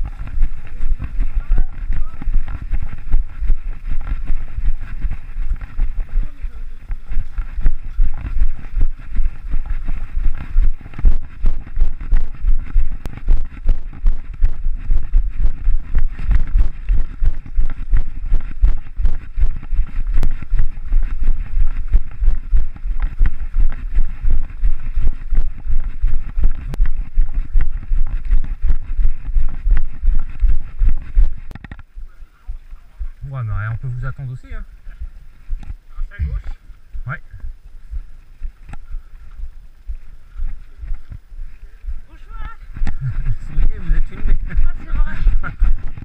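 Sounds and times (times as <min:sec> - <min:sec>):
wind rumbling on camera microphone: 0:00.0 - 0:46.0.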